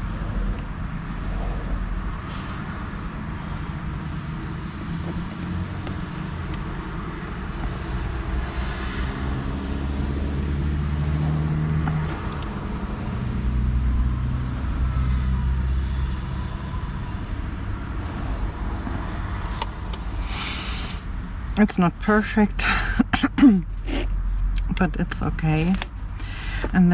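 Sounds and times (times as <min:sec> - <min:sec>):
traffic noise: 0:00.0 - 0:26.9
vehicle engine running: 0:00.0 - 0:26.9.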